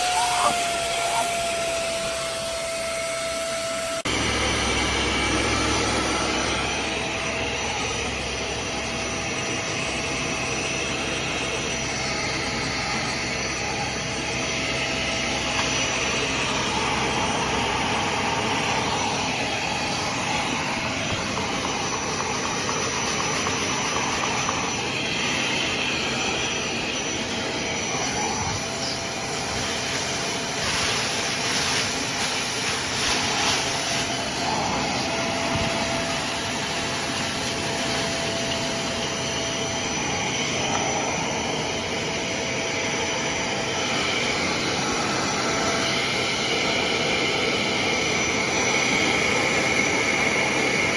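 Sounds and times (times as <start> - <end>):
spot cleaner suction motor whir: 0.0 - 50.9.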